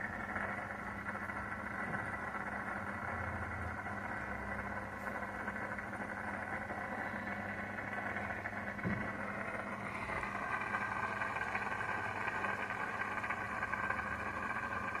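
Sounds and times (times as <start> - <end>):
air pump humming: 0.0 - 15.0.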